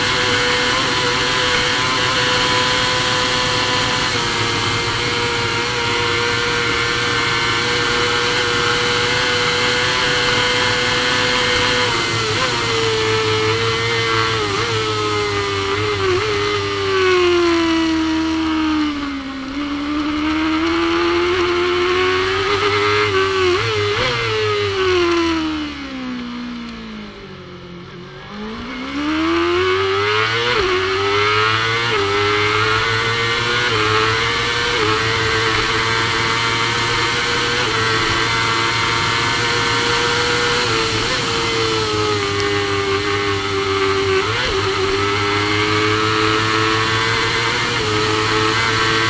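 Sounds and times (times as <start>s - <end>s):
motorcycle engine revving high: 0.0s - 49.0s.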